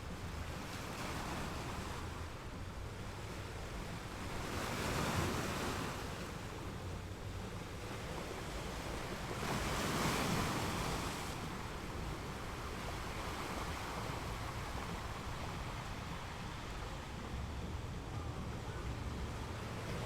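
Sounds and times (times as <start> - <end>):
ocean waves washing on beach: 0.0 - 20.0
wind rumble on microphone: 0.0 - 20.0.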